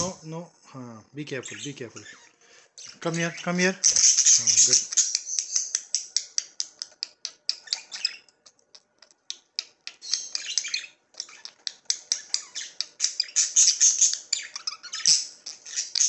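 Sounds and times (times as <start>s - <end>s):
budgerigars chirping: 1.4s - 16.0s.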